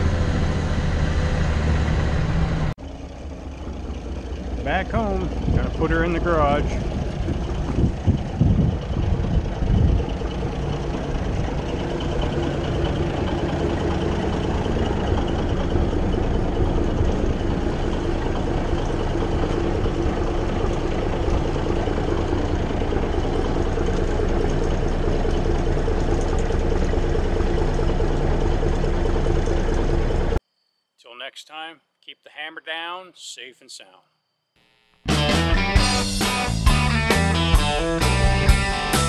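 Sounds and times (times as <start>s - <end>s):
diesel engine idling: 0.0s - 30.4s, 35.1s - 39.0s.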